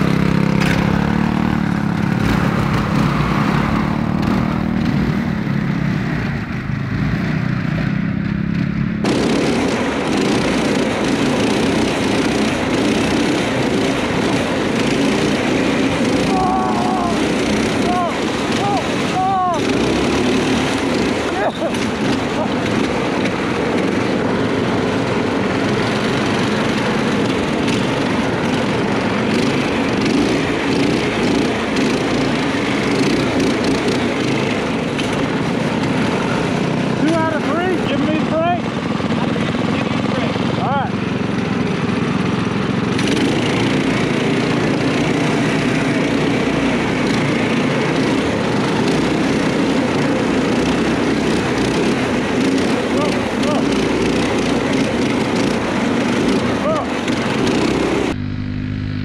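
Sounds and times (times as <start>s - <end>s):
go-kart engines droning: 0.0s - 59.0s.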